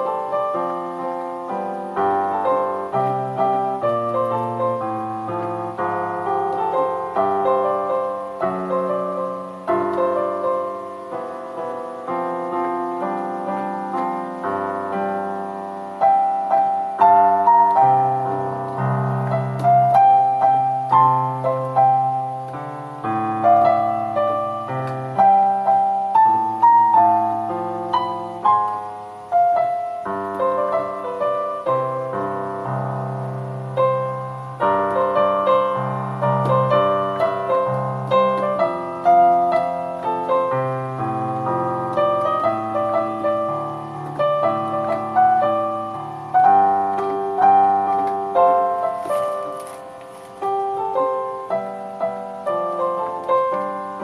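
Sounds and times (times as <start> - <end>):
solo piano melody: 0.0 - 54.0.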